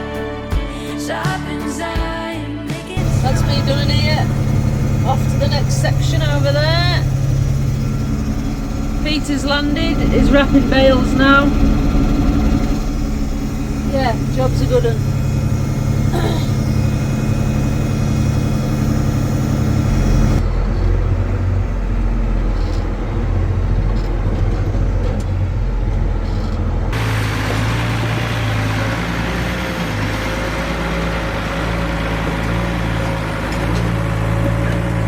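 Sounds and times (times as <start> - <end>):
vehicle engine running: 2.9 - 35.0.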